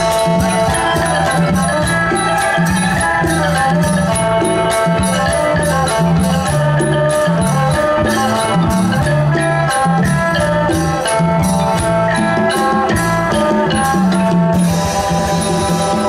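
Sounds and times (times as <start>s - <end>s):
folk ensemble playing: 0.0s - 16.0s
high percussion beat: 0.0s - 16.0s.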